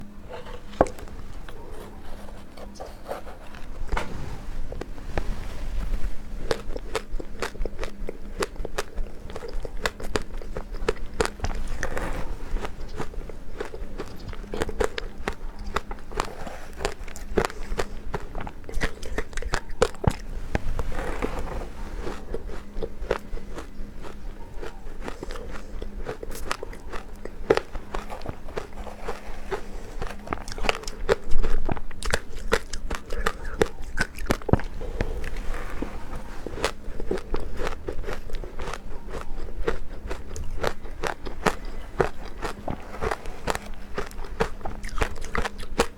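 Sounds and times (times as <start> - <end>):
crunching ice: 6.3 - 45.9.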